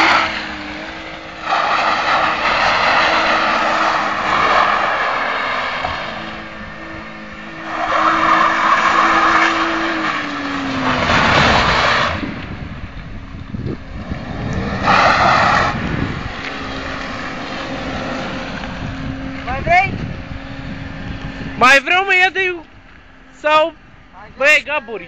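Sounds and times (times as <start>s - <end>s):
car engine at high revs: 0.0s - 25.0s
tyres skidding: 0.0s - 25.0s.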